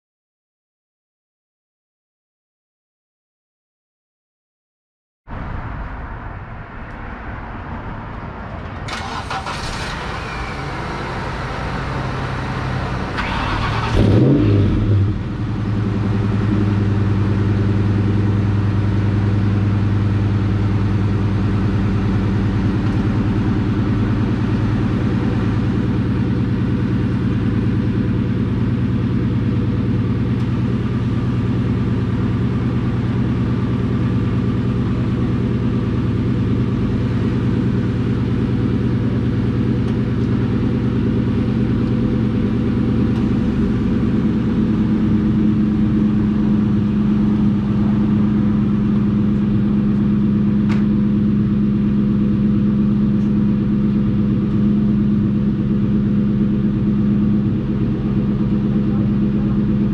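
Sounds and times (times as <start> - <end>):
car engine idling with deep rumble: 8.1 - 59.9.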